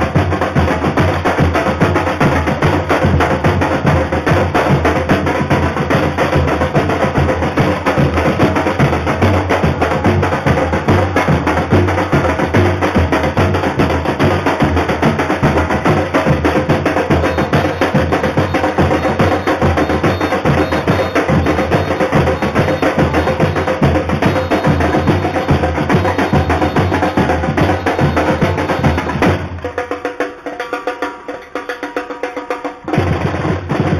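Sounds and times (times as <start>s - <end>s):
drum section playing a dense beat: 0.0s - 33.9s.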